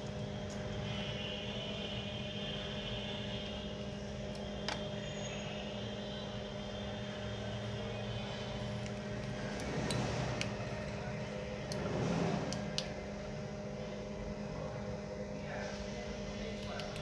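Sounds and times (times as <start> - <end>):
motor humming: 0.0 - 14.1.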